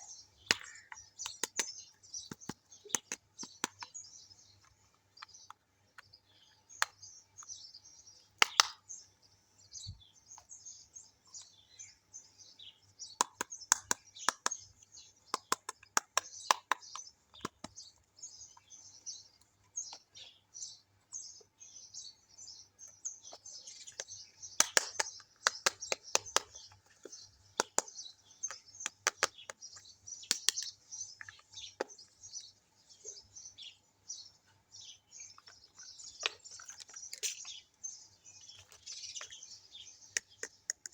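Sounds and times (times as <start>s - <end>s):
birdsong chirping: 0.0s - 40.9s.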